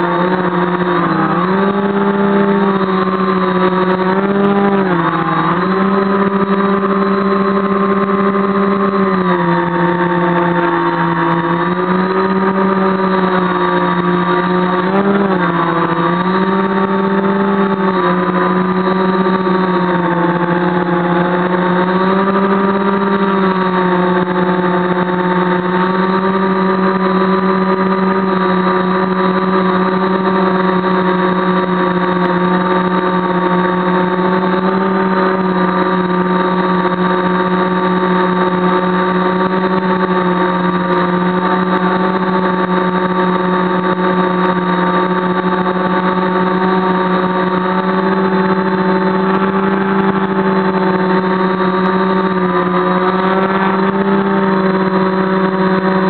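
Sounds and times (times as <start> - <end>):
quadcopter motors humming: 0.0 - 56.0.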